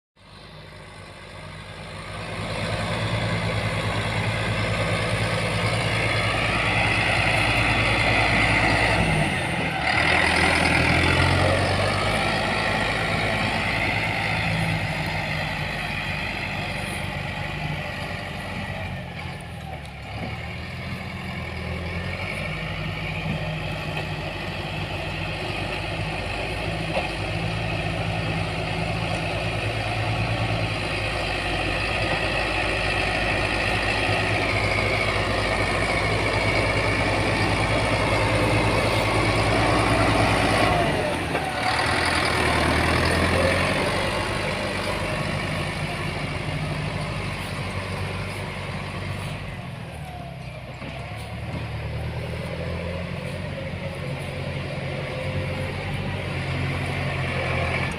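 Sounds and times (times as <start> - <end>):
heavy diesel engine running: 0.2 - 57.9.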